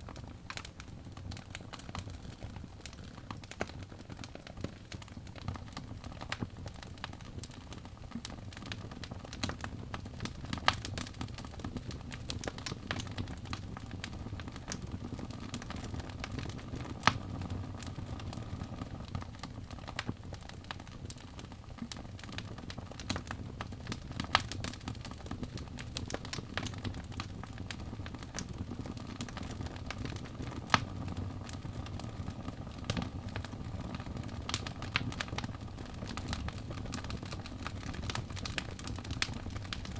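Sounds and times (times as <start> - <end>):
fire sharp pops: 0.0 - 39.9
wood fire crackling: 0.0 - 39.9.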